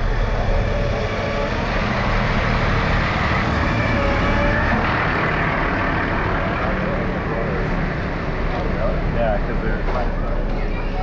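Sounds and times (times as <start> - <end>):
street traffic: 0.0 - 11.0
truck engine running: 0.0 - 11.0.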